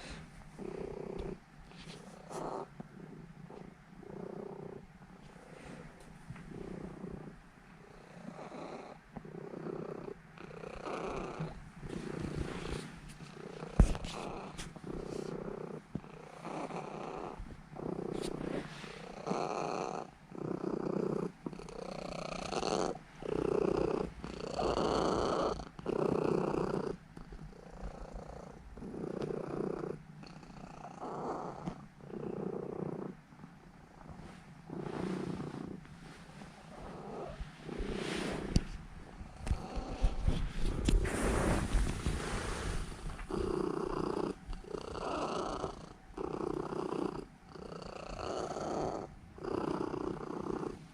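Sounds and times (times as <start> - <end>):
cat purring: 0.0 - 50.9.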